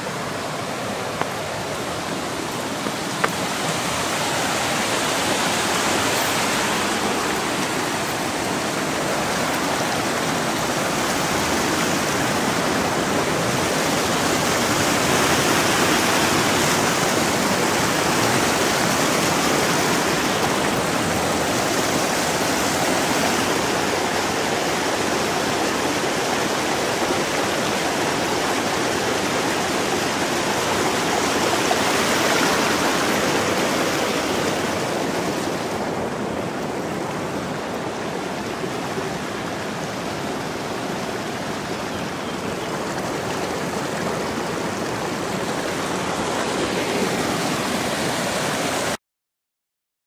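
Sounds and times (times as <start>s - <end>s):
water rushing over rocks: 0.0s - 49.0s.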